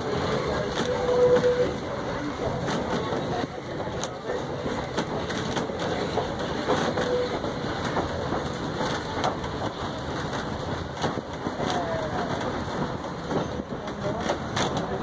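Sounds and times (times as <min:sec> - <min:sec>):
train wheels clattering on rail: 0:00.0 - 0:15.0.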